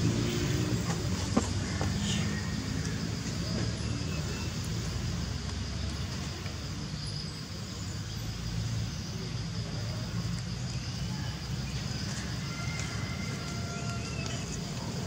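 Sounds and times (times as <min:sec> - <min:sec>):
motorbike and road traffic rumble: 0:00.0 - 0:15.0.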